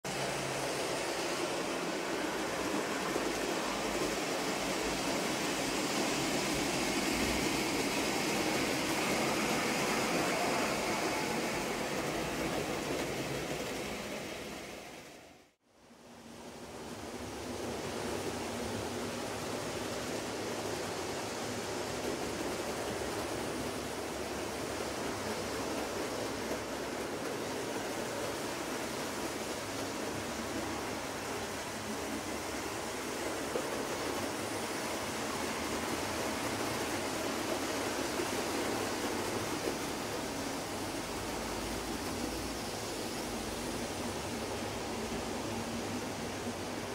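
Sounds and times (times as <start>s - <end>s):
model train wheels rumbling on rail: 0.1s - 15.6s, 16.4s - 46.9s.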